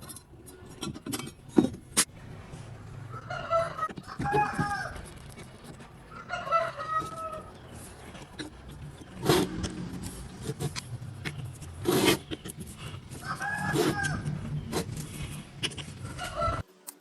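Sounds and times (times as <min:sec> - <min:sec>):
chicken calling: 0:02.1 - 0:16.6.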